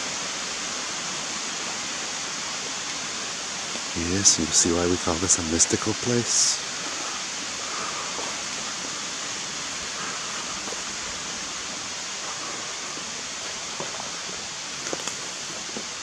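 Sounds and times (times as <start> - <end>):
rushing hiss of outdoor ambience: 0.0 - 16.0.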